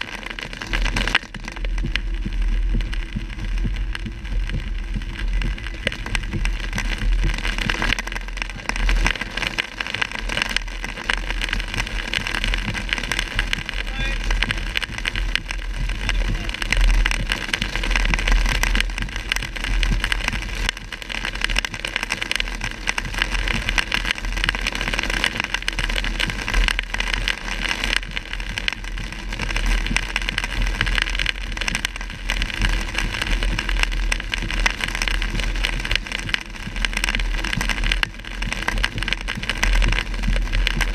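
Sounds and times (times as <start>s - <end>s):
low rumble: 0.0s - 40.9s
rain pelting car roof: 0.0s - 40.9s
tyre and road noise: 0.0s - 40.9s.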